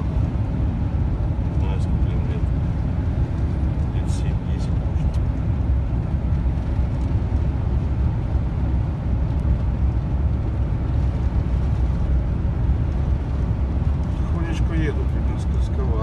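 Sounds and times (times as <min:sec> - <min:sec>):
truck engine rumbling: 0:00.0 - 0:16.0
tyres on the road: 0:00.0 - 0:16.0.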